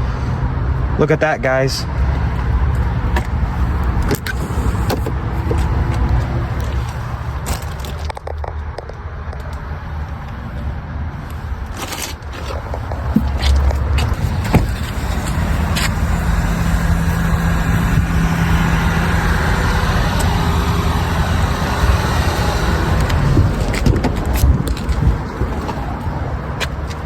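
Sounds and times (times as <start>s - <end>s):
motor vehicle engine hum: 0.0s - 27.0s.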